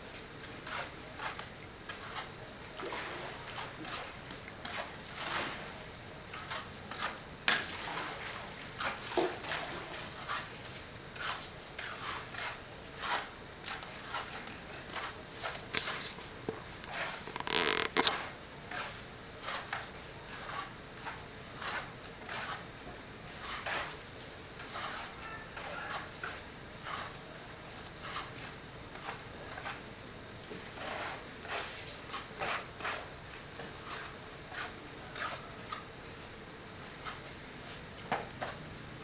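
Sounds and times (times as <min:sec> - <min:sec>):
trowels scraping cement on a wall: 0:00.4 - 0:02.4, 0:03.2 - 0:08.1, 0:08.8 - 0:29.9, 0:30.5 - 0:35.9, 0:36.9 - 0:37.4.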